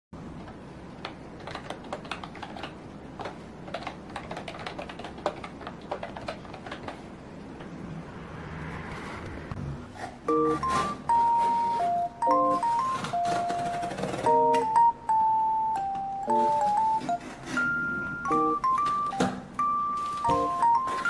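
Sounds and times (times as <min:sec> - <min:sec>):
laptop keyboard typing: 0:00.4 - 0:07.1, 0:10.3 - 0:21.0.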